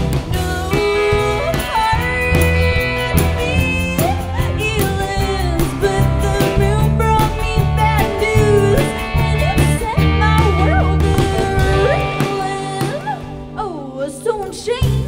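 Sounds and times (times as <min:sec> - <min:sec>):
steady low bass notes: 0:00.0 - 0:12.6
acoustic guitars playing: 0:00.0 - 0:13.6
woman singing: 0:00.0 - 0:15.0.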